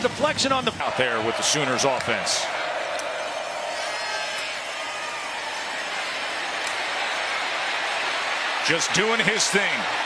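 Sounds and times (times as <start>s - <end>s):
stadium crowd noise: 0.0s - 10.0s.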